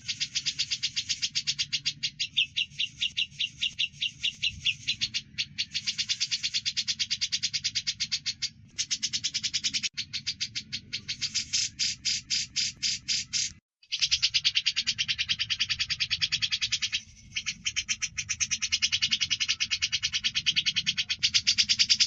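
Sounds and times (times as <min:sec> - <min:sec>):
fast bird chirps: 0:00.0 - 0:22.0.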